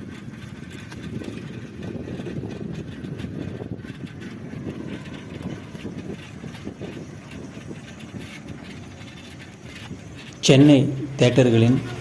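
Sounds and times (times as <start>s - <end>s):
bicycle road noise: 0.0s - 12.0s
wind buffeting microphone: 0.0s - 12.0s.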